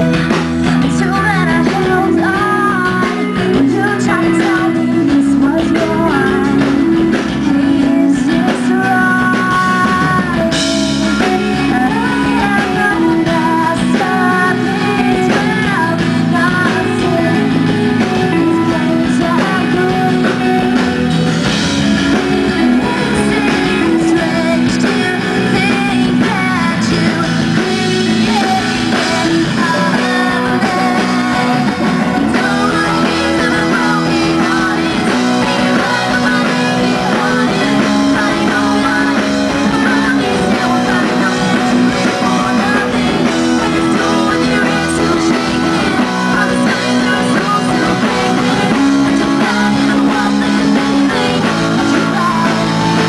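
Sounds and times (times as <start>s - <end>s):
bass guitar: 0.0s - 53.0s
drum kit: 0.0s - 53.0s
electric guitars: 0.0s - 53.0s
woman singing lead: 0.0s - 53.0s.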